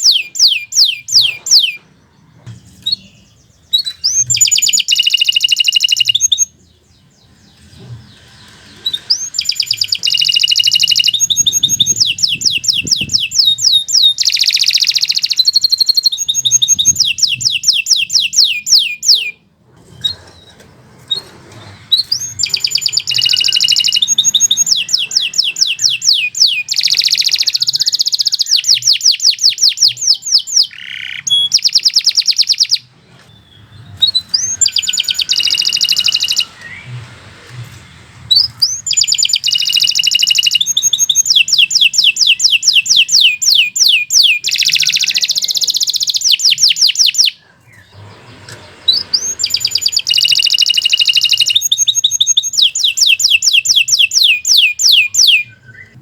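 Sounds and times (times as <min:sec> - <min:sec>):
canary singing trills: 0:00.0 - 0:21.3, 0:22.0 - 0:37.0, 0:38.3 - 0:56.0.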